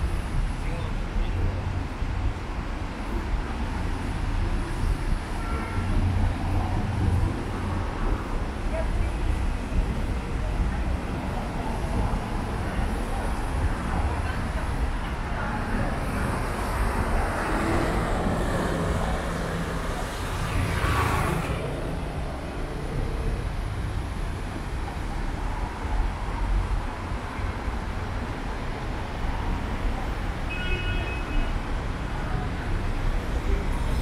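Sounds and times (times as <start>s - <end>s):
traffic noise: 0.0s - 34.0s.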